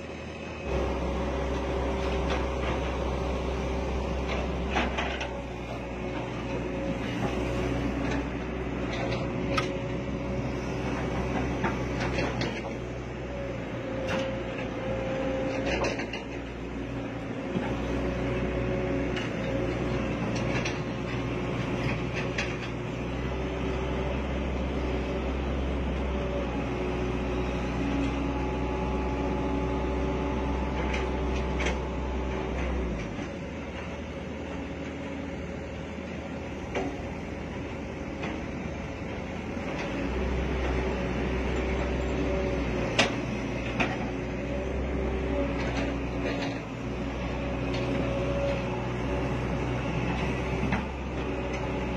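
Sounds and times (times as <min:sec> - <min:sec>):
excavator diesel engines: 0:00.0 - 0:51.9.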